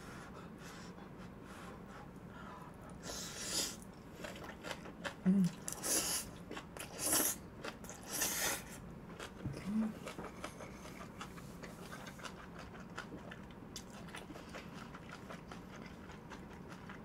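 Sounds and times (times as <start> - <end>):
chewing noodles: 2.9 - 17.0.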